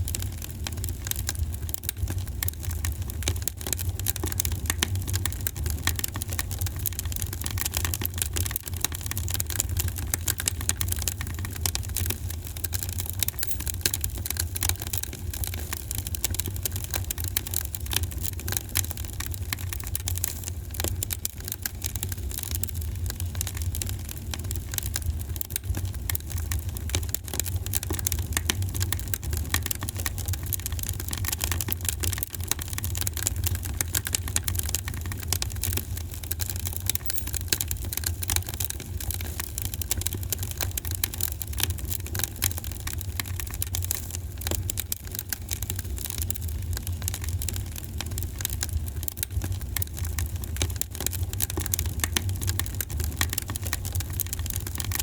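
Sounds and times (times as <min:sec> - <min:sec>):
wood fire crackling and popping: 0:00.0 - 0:36.3, 0:38.0 - 0:55.0.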